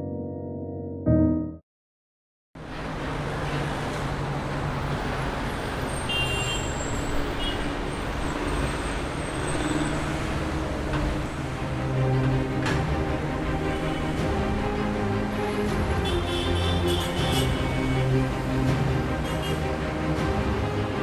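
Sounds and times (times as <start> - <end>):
road traffic hum: 2.6 - 21.0.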